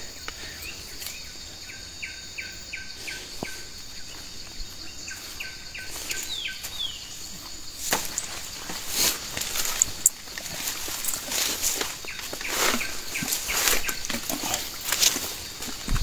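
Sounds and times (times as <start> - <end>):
insects hissing: 0.0 - 16.0.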